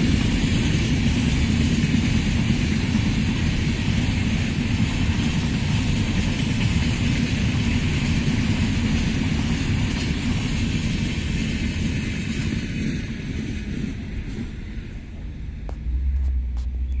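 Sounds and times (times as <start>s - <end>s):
steady low rumble: 0.0s - 17.0s
train coaches rumbling on rails: 0.0s - 17.0s.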